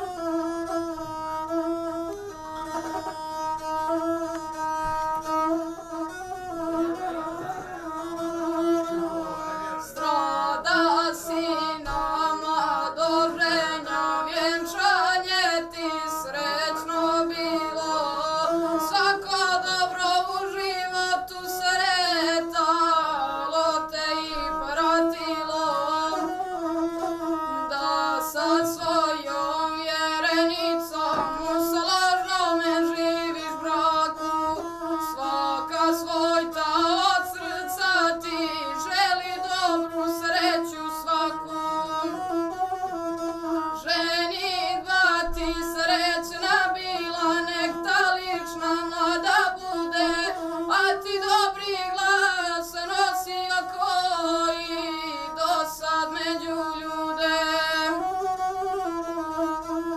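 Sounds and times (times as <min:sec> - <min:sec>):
bowed folk fiddle droning: 0:00.0 - 0:59.9
boy singing: 0:00.0 - 0:59.9.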